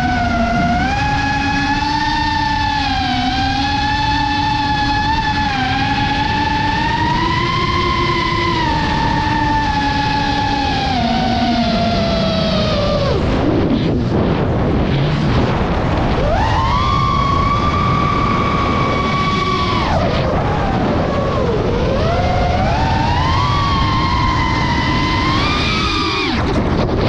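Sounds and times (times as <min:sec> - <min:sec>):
drone motors whining: 0:00.0 - 0:27.0
rush of air noise: 0:00.0 - 0:27.0.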